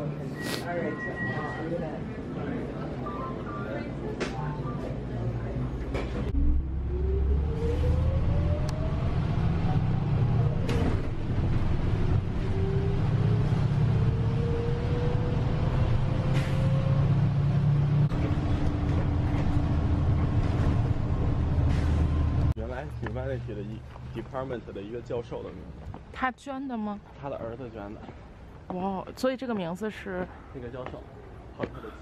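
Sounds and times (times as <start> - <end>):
bus engine rumble and whine: 0.0 - 27.1.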